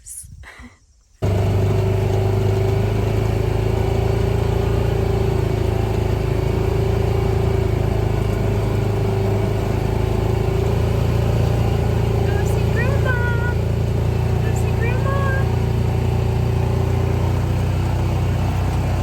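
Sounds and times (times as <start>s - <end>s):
engine running steadily: 1.2s - 19.0s.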